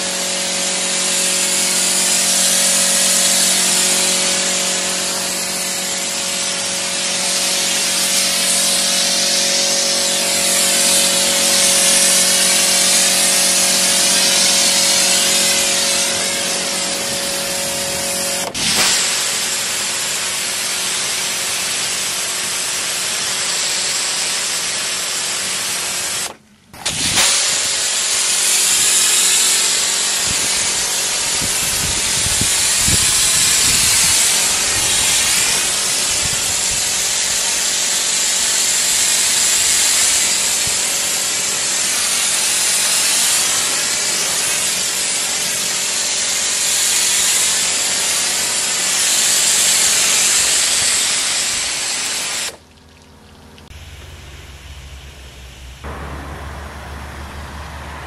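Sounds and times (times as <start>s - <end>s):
pressure washer pump humming: 0.0s - 58.0s
water jet spraying on car: 0.0s - 58.0s.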